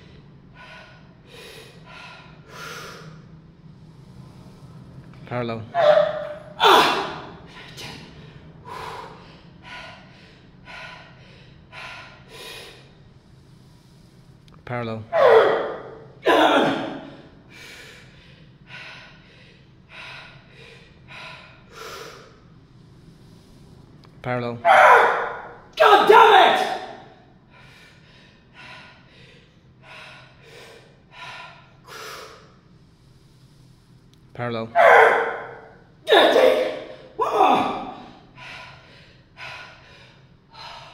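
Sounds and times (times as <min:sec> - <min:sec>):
man breathing hard: 0:00.0 - 0:05.1, 0:05.8 - 0:14.4, 0:15.2 - 0:24.0, 0:26.6 - 0:34.1, 0:36.6 - 0:40.9.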